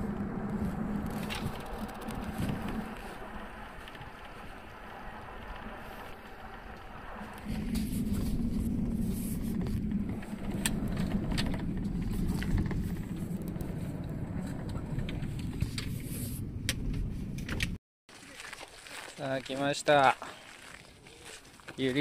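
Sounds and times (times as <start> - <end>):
bus engine and road rumble: 0.0 - 17.8.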